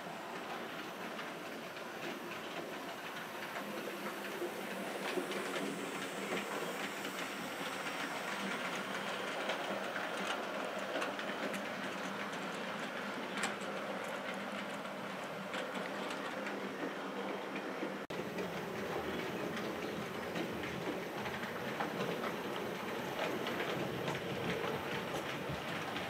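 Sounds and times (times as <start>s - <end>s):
model train wheels clicking: 0.0s - 26.0s.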